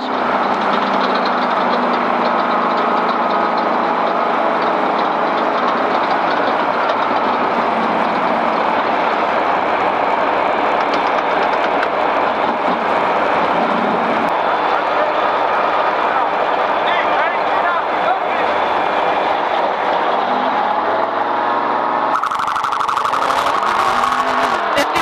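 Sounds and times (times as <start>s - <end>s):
off-road vehicle engine: 0.0s - 25.0s.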